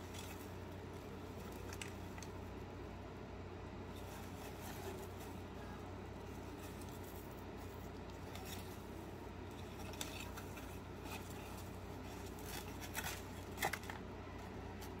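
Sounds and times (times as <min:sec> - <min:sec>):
dry moss rustling and crackling: 0:00.0 - 0:02.8, 0:03.8 - 0:15.0.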